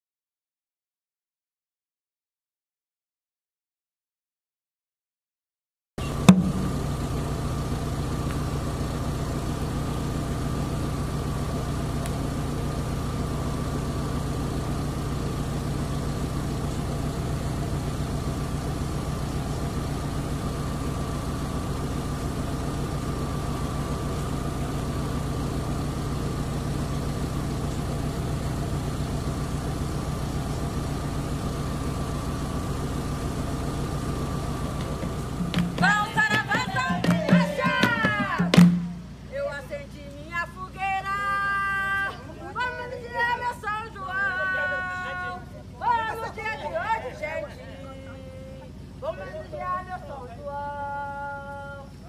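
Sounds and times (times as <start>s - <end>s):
engine idling: 6.0s - 52.0s.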